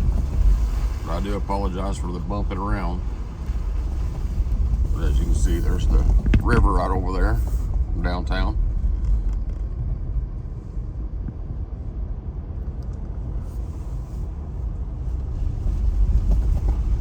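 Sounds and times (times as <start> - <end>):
tyre and road rumble: 0.0 - 17.0.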